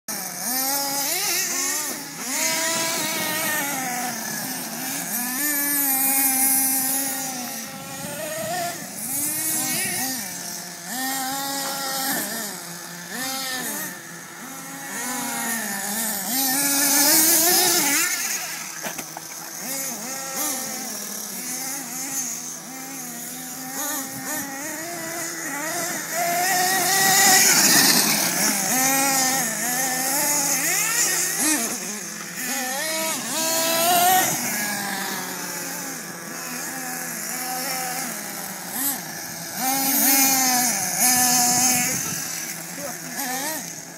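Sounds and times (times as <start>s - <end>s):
toy car motor revving: 0.1s - 43.9s.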